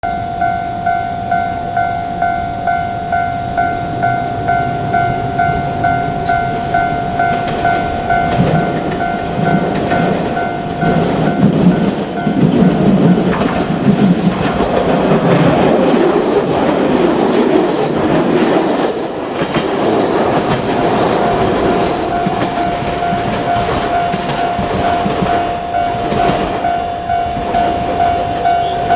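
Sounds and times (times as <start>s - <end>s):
crossing warning bell ringing: 0.0s - 28.9s
train rumble and wheel clacks: 0.0s - 28.9s.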